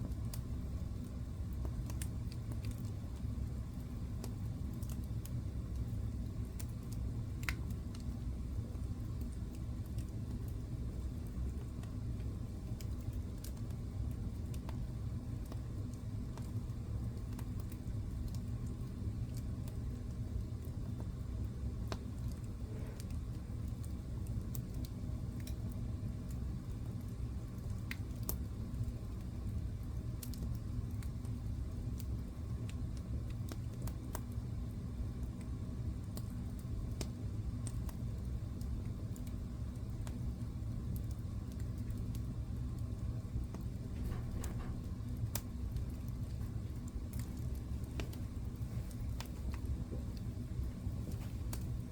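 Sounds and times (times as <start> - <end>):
burning wood crackling and popping: 0.0 - 51.9
low rumble of flames: 0.0 - 51.9.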